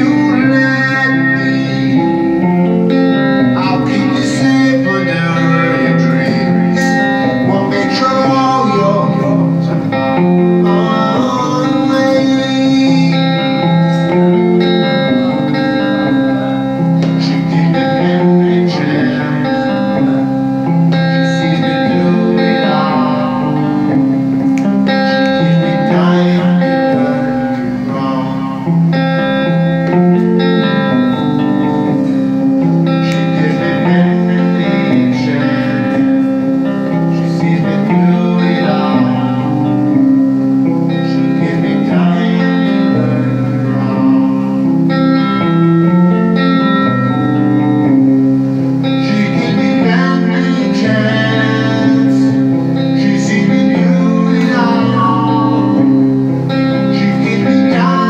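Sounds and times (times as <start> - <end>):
man singing into a microphone: 0.0 - 24.1, 24.8 - 29.6, 30.2 - 40.0, 40.6 - 47.1, 48.9 - 58.0
electric guitar playing: 0.0 - 58.0.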